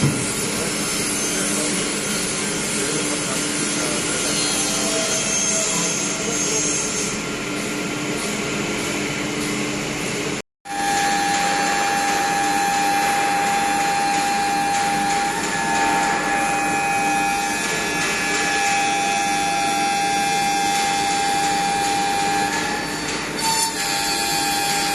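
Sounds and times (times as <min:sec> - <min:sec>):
cnc machine whining: 0:00.0 - 0:08.2, 0:10.7 - 0:24.9.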